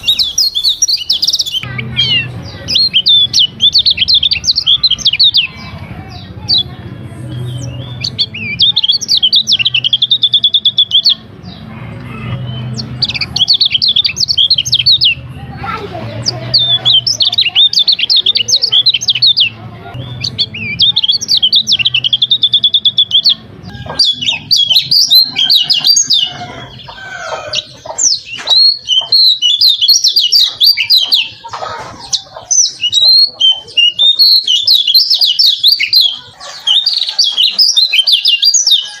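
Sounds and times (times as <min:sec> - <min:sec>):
bird twittering song: 0:00.0 - 0:39.0.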